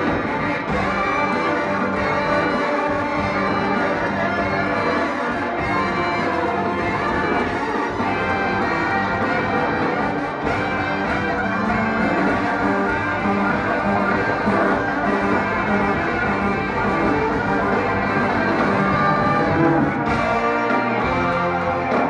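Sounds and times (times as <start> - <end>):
live brass band music: 0.0 - 22.0.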